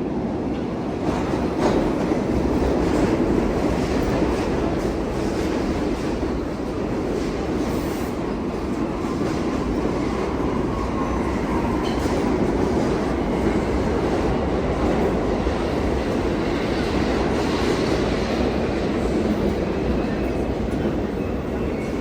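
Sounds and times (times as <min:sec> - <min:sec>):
subway train wheels on rail: 0:00.0 - 0:22.0.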